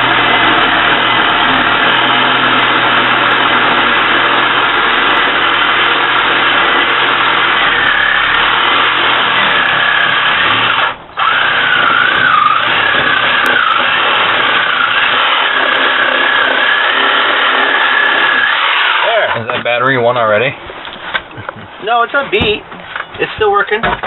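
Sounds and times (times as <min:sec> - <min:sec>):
reciprocating saw cutting plywood: 0:00.0 - 0:19.8.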